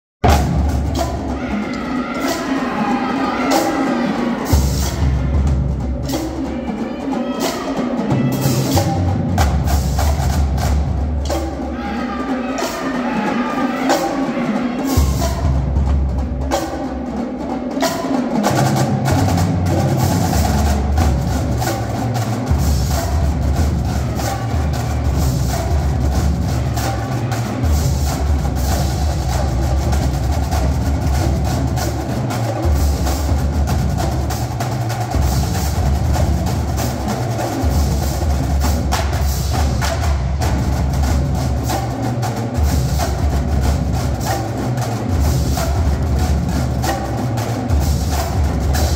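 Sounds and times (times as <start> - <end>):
marching drumline playing: 0.2 - 48.9.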